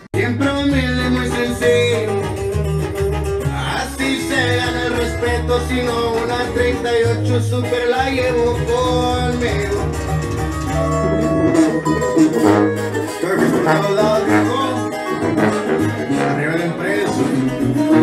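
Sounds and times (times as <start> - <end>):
person singing: 0.0 - 2.6, 3.5 - 18.0
stepping bass line: 0.1 - 18.0
plucked strings: 0.5 - 18.0.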